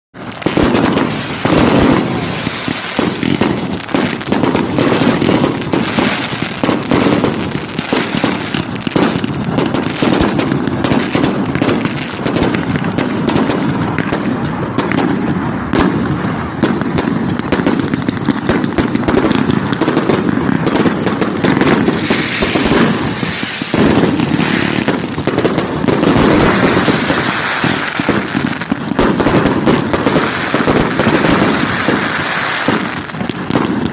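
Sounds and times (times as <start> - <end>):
fireworks banging and crackling: 0.1 - 33.9.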